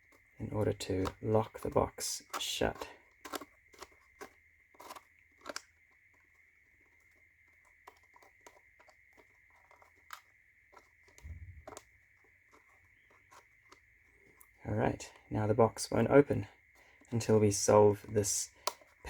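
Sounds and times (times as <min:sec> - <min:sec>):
wooden puzzle tiles clicking: 0:00.4 - 0:19.0.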